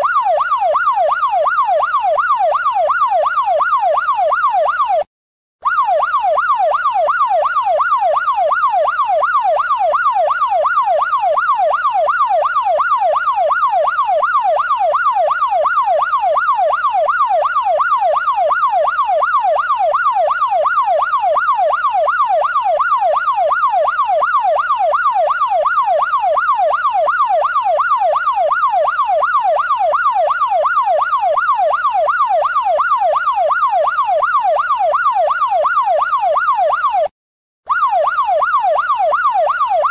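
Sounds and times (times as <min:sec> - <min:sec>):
police siren yelping: 0:00.0 - 0:37.1, 0:37.7 - 0:39.9.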